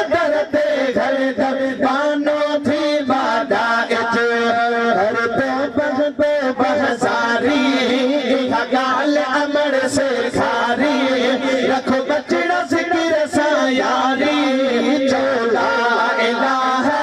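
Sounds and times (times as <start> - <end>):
two men singing a hymn: 0.0 - 17.0.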